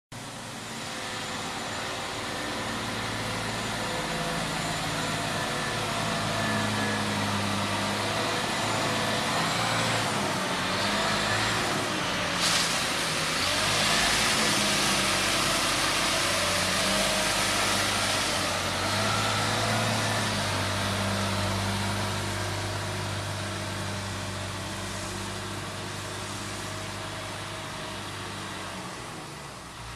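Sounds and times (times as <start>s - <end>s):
truck diesel engine running: 0.2s - 29.9s.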